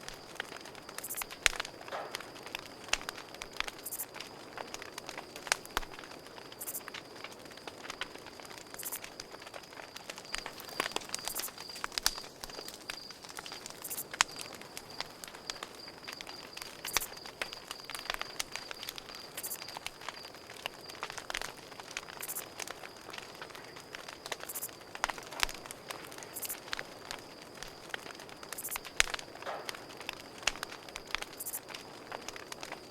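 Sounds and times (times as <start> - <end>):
campfire crackling and popping: 0.0 - 32.9
crickets trilling: 0.0 - 32.9.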